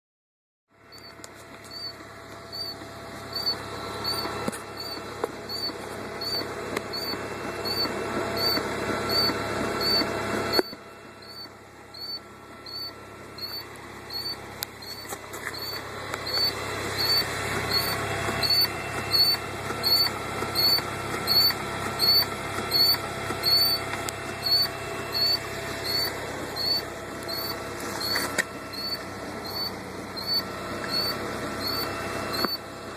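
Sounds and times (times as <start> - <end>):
car engine running: 0.7 - 32.9
high-pitched squeak: 1.0 - 23.8, 24.4 - 32.6.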